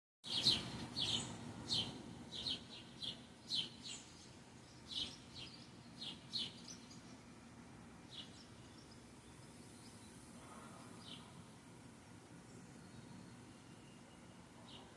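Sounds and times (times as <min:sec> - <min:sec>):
birds chirping: 0:00.2 - 0:14.9.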